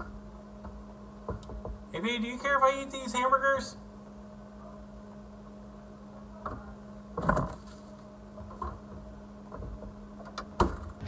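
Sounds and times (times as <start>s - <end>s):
refrigerator low hum: 0.0s - 11.0s.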